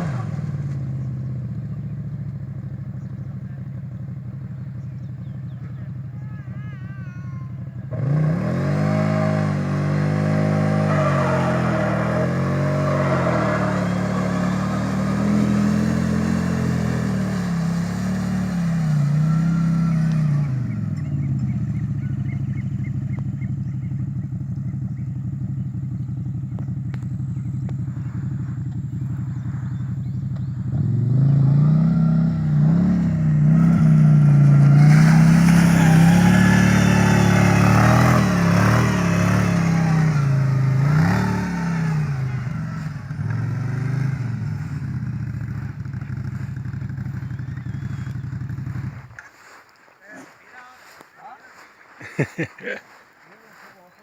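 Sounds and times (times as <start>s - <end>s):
off-road vehicle engine revving: 0.0s - 49.6s.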